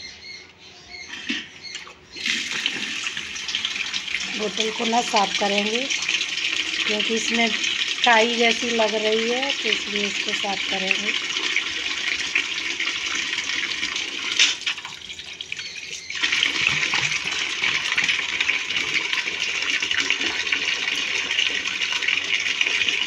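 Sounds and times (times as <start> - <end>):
water running and splashing: 2.1 - 23.0.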